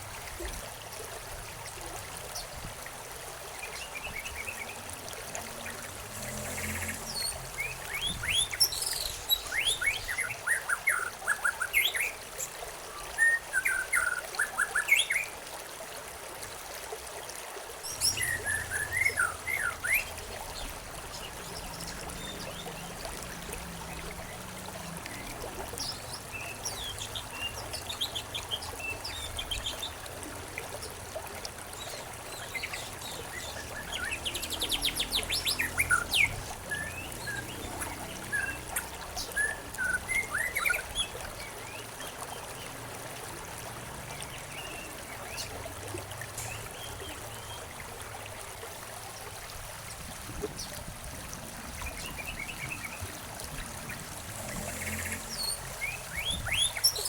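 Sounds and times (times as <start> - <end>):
trickle of running water: 0.0 - 57.0.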